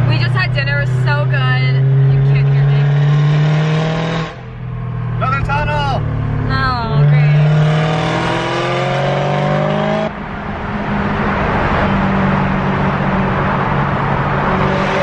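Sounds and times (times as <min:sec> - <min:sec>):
car engine accelerating: 0:00.0 - 0:15.0
road noise: 0:00.0 - 0:15.0.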